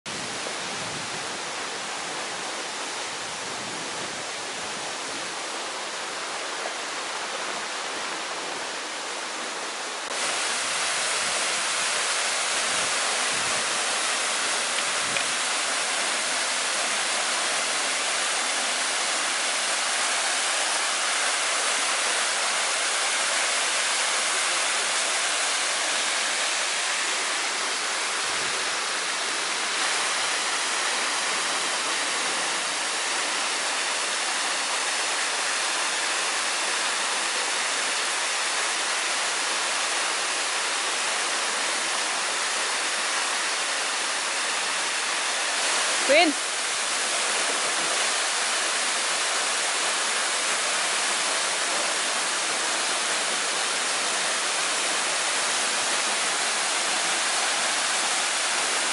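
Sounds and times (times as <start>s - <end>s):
waterfall and creek rushing: 0.1s - 58.9s.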